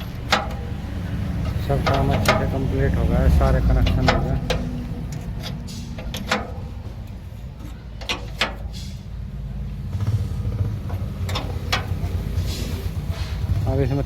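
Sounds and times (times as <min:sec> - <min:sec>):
sharp clicks and knocks: 0:00.0 - 0:09.1, 0:09.9 - 0:13.7
engine rumbling: 0:00.0 - 0:14.0.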